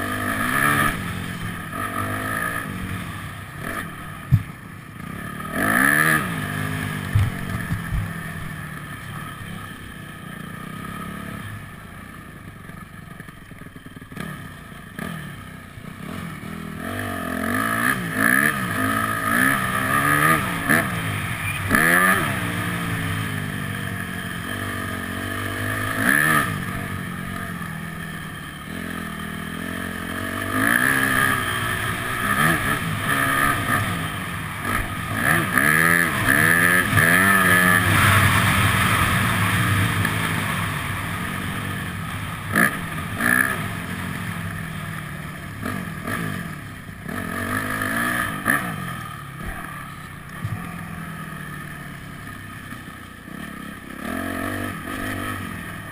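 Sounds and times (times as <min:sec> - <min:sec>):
motocross bike engine revving: 0:00.0 - 0:11.7, 0:14.0 - 0:55.9.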